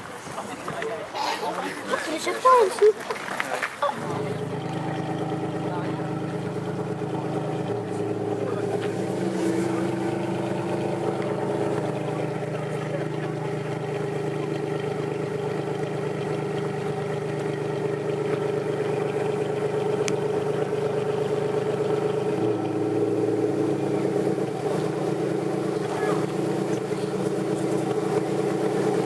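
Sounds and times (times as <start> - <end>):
car engine idling: 3.8 - 29.0.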